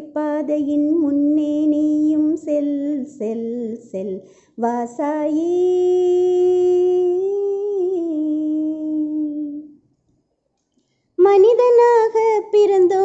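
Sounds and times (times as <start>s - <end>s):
person singing devotional song: 0.0s - 9.8s, 11.2s - 13.0s.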